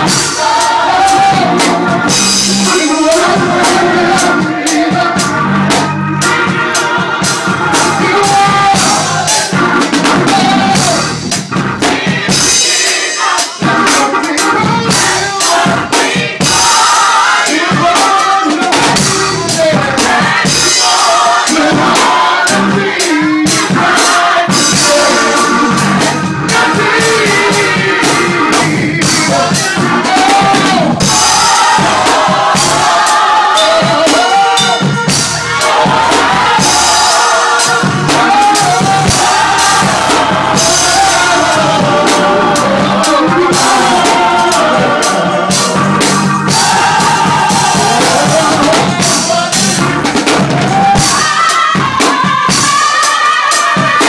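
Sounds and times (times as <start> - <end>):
lead singer on microphone: 0.0 - 11.1, 17.4 - 49.9
drum kit beat: 0.0 - 54.0
gospel choir singing: 0.0 - 54.0.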